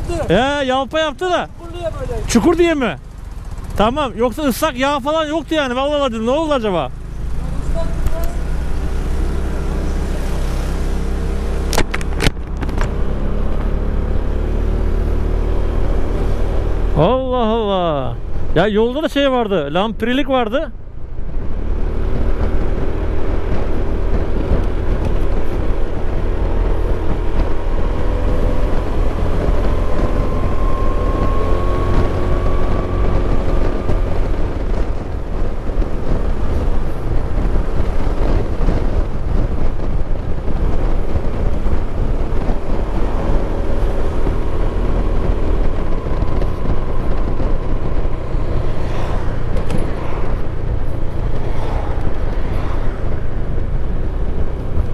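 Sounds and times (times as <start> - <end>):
motorcycle engine running: 0.0 - 19.0, 20.8 - 54.9
wind buffeting microphone: 0.0 - 54.9.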